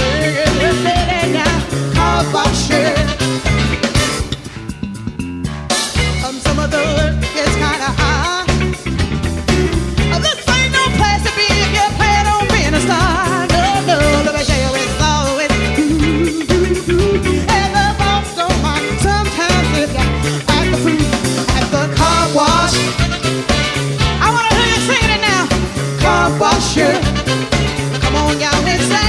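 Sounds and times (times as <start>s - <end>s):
disco-funk song with vocal: 0.0s - 4.8s, 5.7s - 29.0s.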